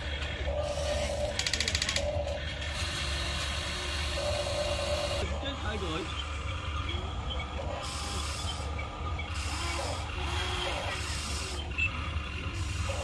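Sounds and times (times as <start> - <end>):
electric gear motors whirring: 0.0 - 13.0
steady low hum: 0.0 - 13.0.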